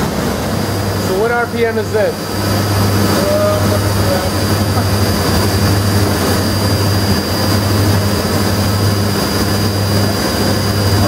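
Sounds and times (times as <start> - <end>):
machine spindle humming with whine: 0.0 - 11.0.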